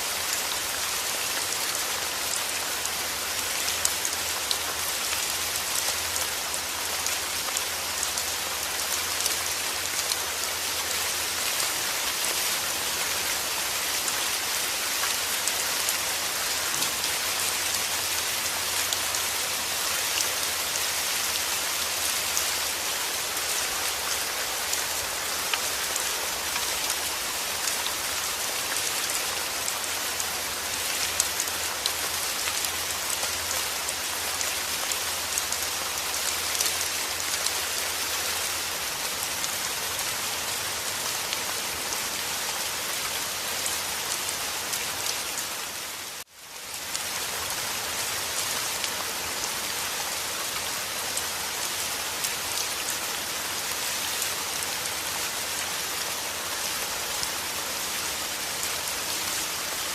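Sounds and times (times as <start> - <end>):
steady rain hissing: 0.0 - 59.9.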